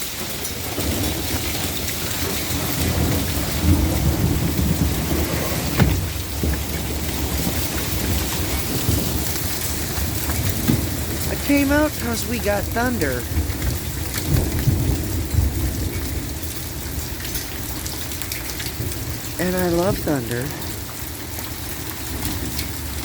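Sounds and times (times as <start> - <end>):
rain and hail falling: 0.0 - 23.0
thunder rumbling: 0.4 - 23.0.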